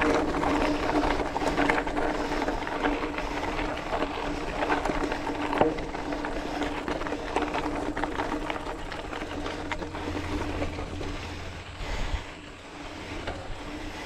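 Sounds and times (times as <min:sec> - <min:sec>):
bike clicks and rattles: 0:00.0 - 0:14.0
bike tyres on dirt: 0:00.0 - 0:14.0
faint hum: 0:00.0 - 0:14.0.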